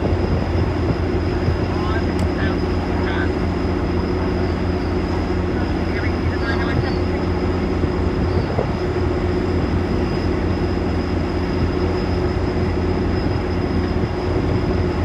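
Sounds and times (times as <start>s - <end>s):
diesel locomotive engine rumbling: 0.0s - 15.0s
thin high whine: 0.0s - 15.0s.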